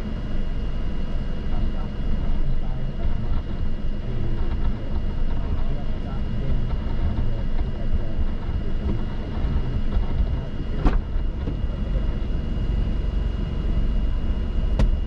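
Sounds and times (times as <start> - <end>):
vehicle and wind rumble: 0.0 - 15.0.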